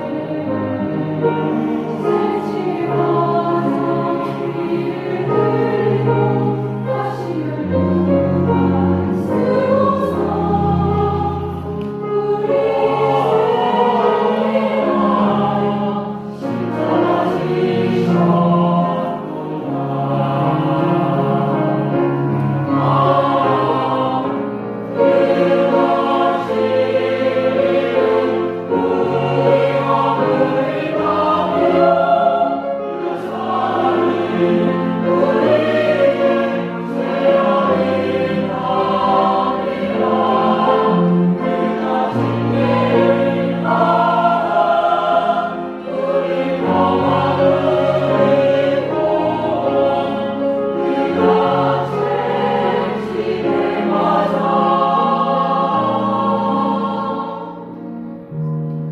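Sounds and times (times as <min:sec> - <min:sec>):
church choir singing: 0:00.0 - 0:58.9.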